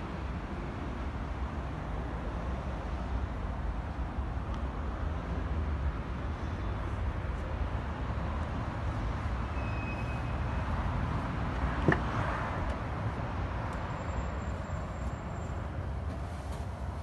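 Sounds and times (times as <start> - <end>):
vehicle rumble with hiss: 0.0 - 17.0.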